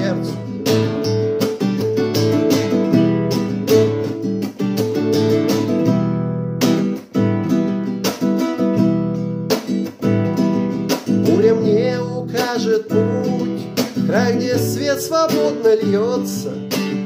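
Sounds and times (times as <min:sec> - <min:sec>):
nylon-string guitar strummed: 0:00.0 - 0:17.0.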